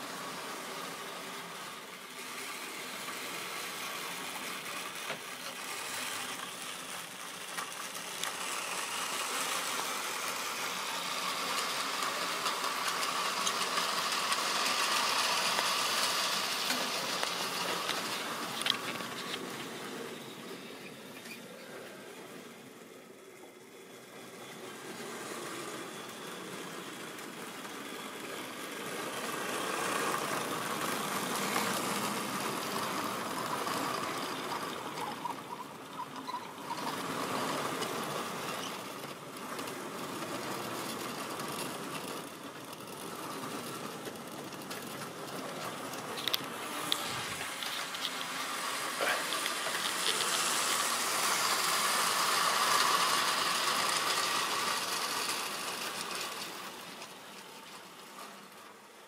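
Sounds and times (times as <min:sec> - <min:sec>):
model train wheels rattling: 0:00.0 - 0:59.0.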